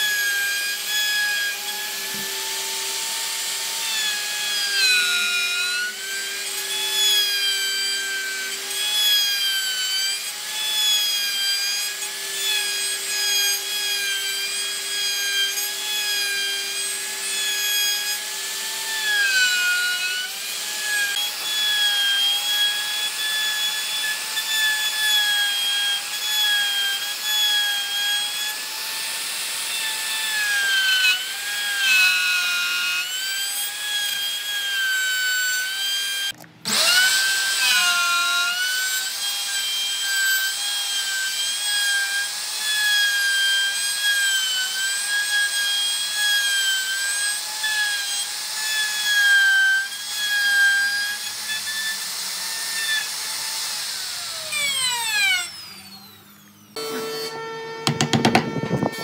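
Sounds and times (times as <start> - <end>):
power tool cutting wood: 0.0 - 59.0.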